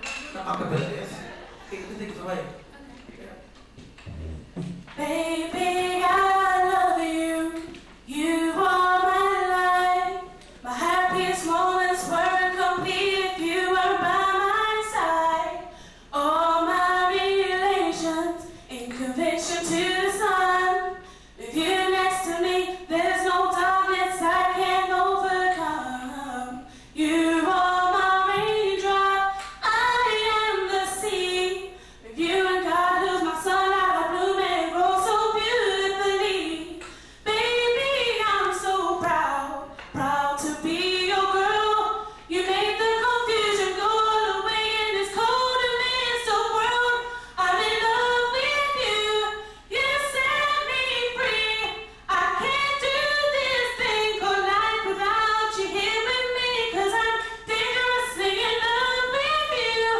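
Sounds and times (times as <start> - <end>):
woman singing a cappella: 4.9 - 59.9.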